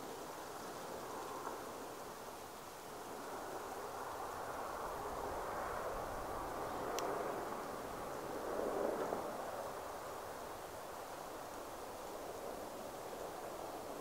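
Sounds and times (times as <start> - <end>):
rushing outdoor noise: 0.0 - 14.0.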